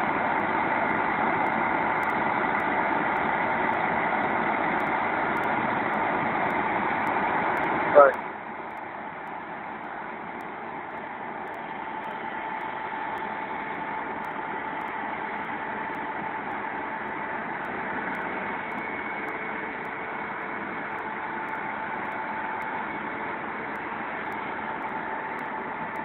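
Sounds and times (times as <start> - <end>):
diesel engine running: 0.0 - 26.0
steady whine: 0.0 - 26.0.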